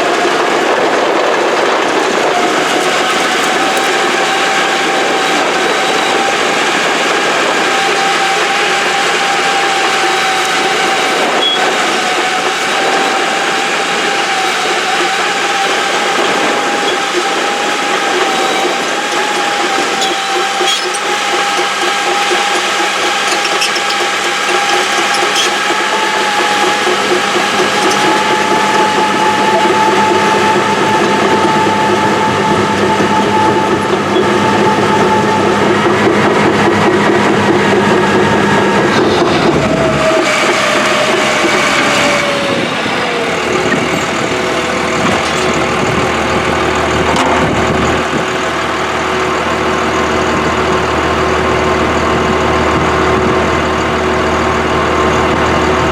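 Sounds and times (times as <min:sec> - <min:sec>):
diesel engine rattling: 0:00.0 - 0:55.9
engine whine: 0:00.0 - 0:55.9.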